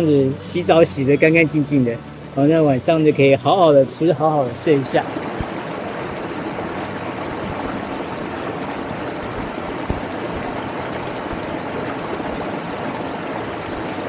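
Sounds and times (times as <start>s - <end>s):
stream flowing over rocks: 0.0s - 14.0s.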